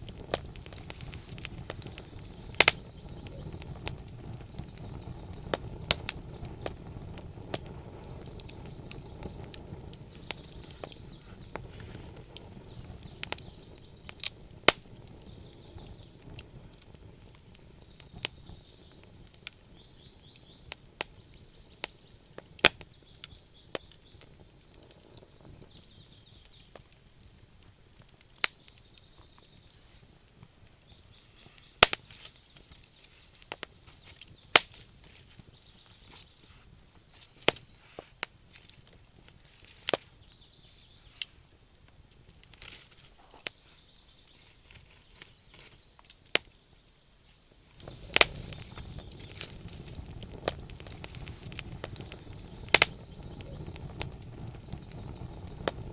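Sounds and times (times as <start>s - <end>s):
low rumble of flames: 0.0s - 46.6s, 47.6s - 55.9s
fire crackling and popping: 0.0s - 55.9s.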